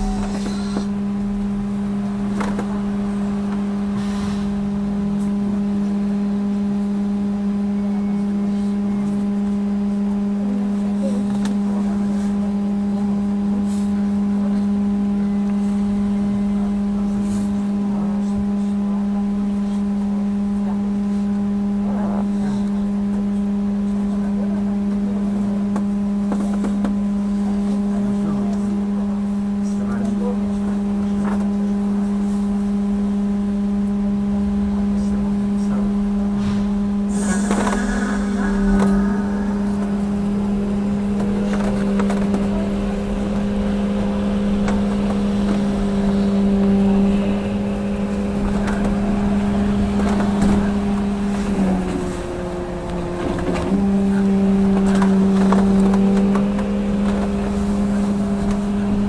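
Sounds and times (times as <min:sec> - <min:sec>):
electrical equipment hum: 0:00.0 - 0:59.0.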